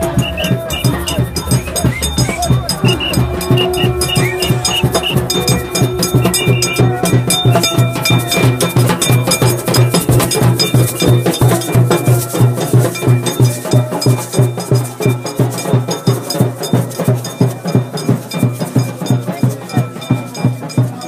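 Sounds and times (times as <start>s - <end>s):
fast drum beat: 0.0s - 21.0s
metallic bell strikes: 0.0s - 21.0s.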